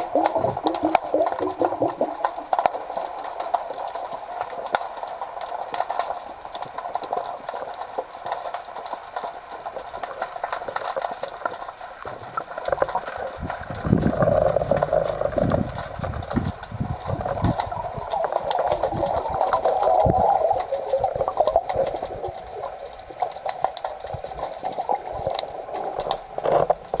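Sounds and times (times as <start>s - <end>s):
crackle of small underwater clicks: 0.0s - 27.0s
water rushing: 0.0s - 27.0s.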